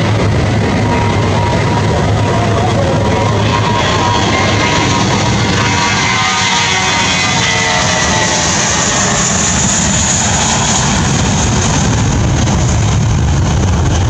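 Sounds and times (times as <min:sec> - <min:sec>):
jet engines at takeoff thrust: 0:00.0 - 0:14.0.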